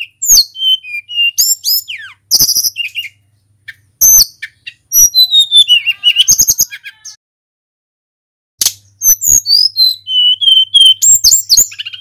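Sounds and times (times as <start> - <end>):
bird singing whistled phrases: 0.0 - 7.2, 9.0 - 12.0.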